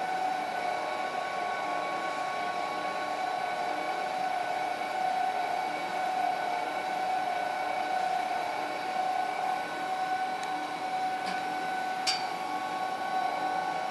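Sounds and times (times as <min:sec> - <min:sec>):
blender motor hum and whine: 0:00.0 - 0:13.9.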